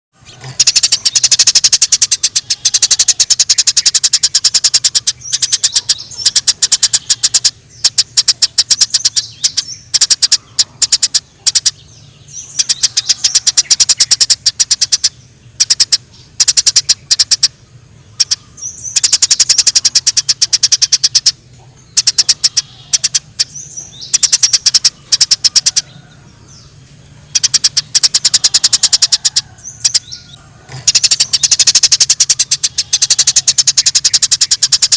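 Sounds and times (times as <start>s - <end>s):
sparrow chattering: 0.3s - 34.9s.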